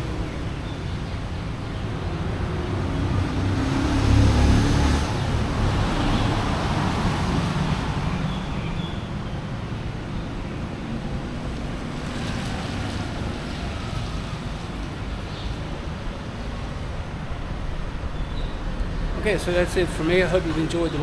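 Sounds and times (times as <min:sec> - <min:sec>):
road traffic rumbling: 0:00.0 - 0:21.0
vehicle passing close by: 0:00.0 - 0:21.0
wind buffeting microphone: 0:00.0 - 0:21.0.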